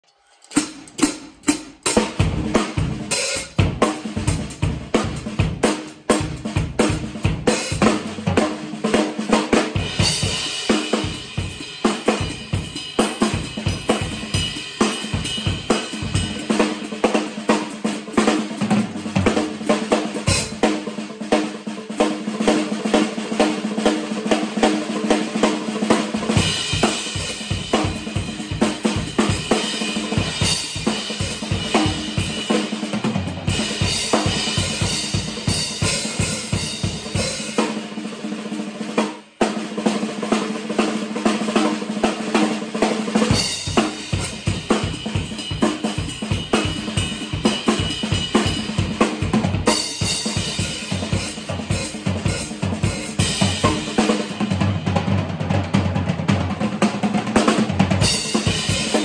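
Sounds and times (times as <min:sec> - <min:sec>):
drum kit groove: 0:00.0 - 0:59.0.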